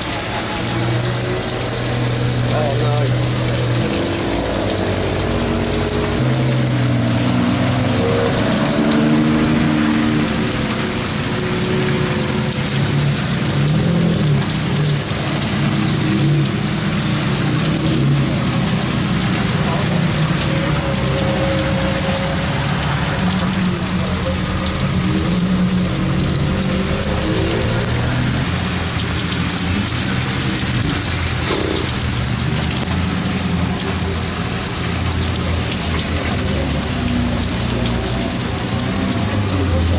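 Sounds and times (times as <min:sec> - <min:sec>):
car engines driving slowly past: 0:00.0 - 0:39.9
heavy rain pouring: 0:00.0 - 0:39.9.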